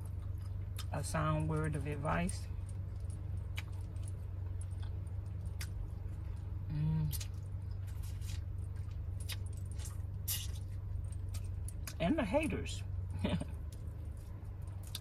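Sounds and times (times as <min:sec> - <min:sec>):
chewing and lip-smacking: 0:00.0 - 0:12.1, 0:12.8 - 0:15.0
low hum: 0:00.0 - 0:15.0.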